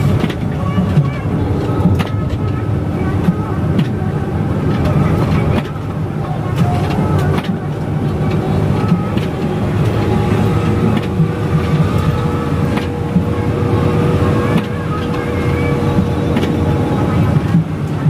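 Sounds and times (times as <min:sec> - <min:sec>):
bus engine and tyres rumbling: 0:00.0 - 0:18.0.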